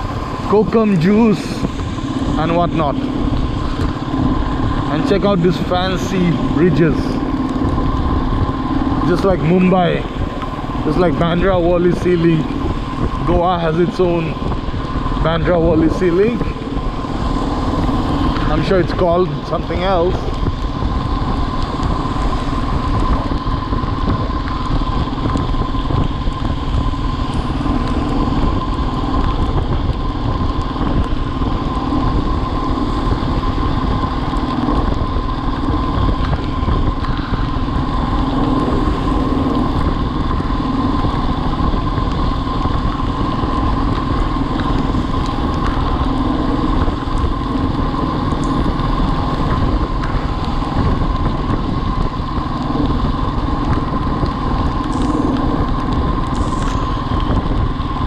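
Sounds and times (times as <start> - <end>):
motorcycle engine running: 0.0 - 58.0
wind noise: 0.0 - 58.0.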